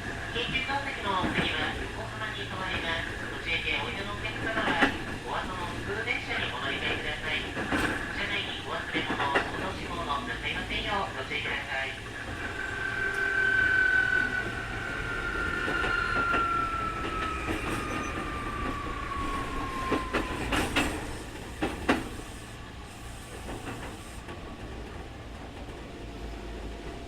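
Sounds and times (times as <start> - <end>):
train rolling rumble: 0.0 - 27.0.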